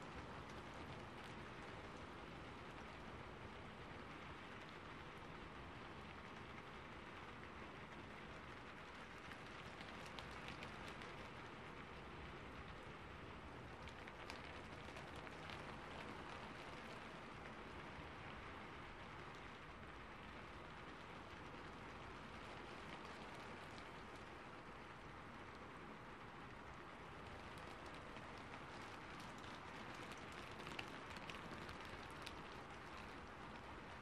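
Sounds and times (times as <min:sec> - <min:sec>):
rain on a roof: 0:00.0 - 0:34.0.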